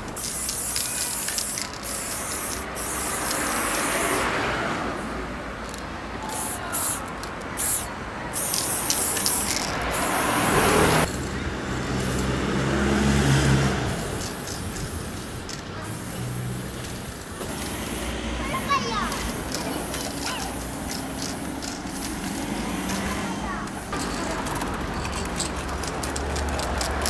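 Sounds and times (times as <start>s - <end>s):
spray paint can hissing: 0.0s - 4.4s, 5.6s - 11.2s, 11.9s - 12.3s, 13.9s - 27.0s
street traffic: 0.0s - 27.0s.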